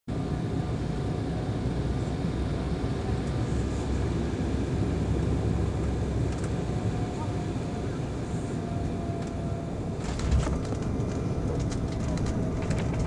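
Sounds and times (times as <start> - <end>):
jet engines rumbling in cabin: 0.1 - 13.0.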